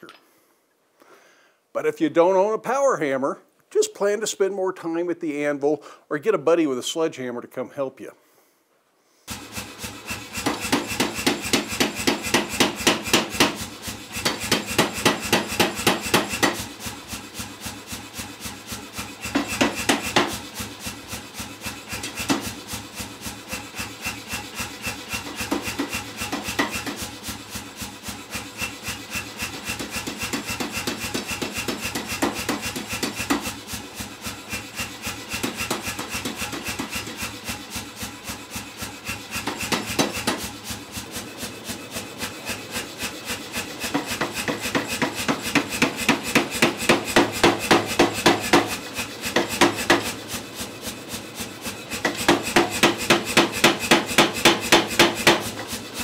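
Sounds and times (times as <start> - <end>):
power hammer striking hot steel: 9.3 - 56.0.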